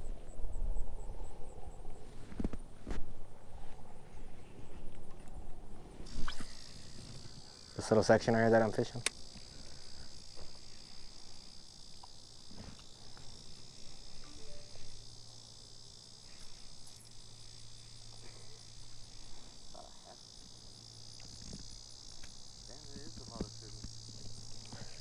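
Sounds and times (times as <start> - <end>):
high-pitched insect chorus: 0.0 - 2.6, 3.3 - 25.0.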